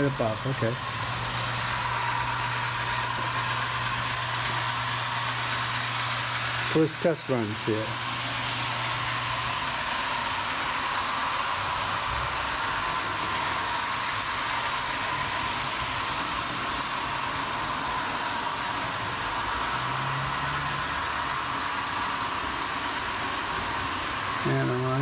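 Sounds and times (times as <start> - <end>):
model train hum: 0.0 - 25.0.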